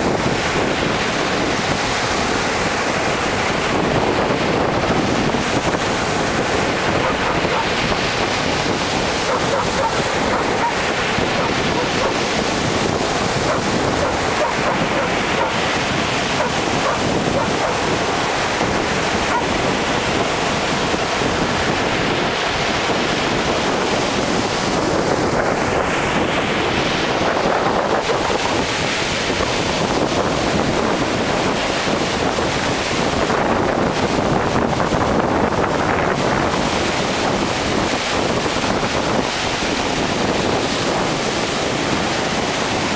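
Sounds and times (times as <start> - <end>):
surf breaking on a beach: 0.0 - 42.9
wind buffeting microphone: 0.0 - 42.9.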